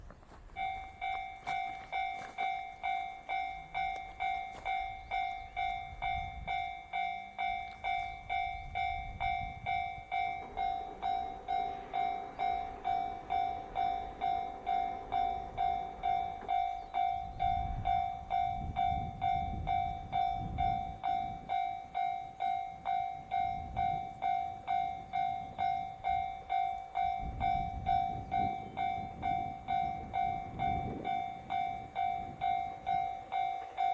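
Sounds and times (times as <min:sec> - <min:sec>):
electronic crossing bell ringing: 0:00.5 - 0:33.9.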